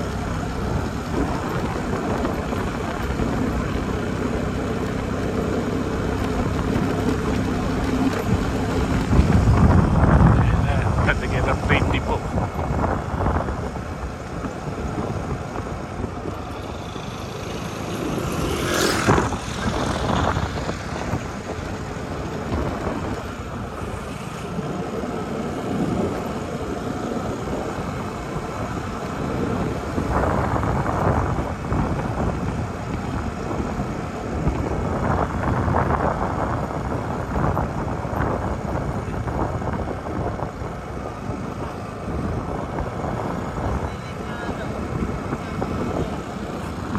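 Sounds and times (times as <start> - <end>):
motorcycle engine running: 0.0 - 46.9
tyre noise: 0.0 - 46.9
wind rushing over microphone: 0.0 - 46.9.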